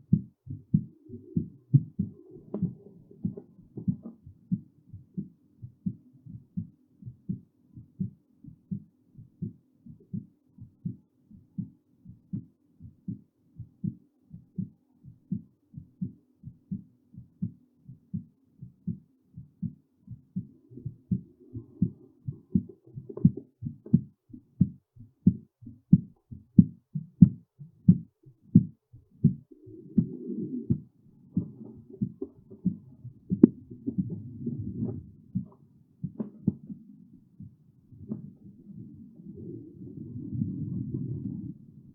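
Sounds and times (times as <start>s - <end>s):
faint steady hum: 0.0s - 41.9s
heartbeat thumps: 0.0s - 41.9s.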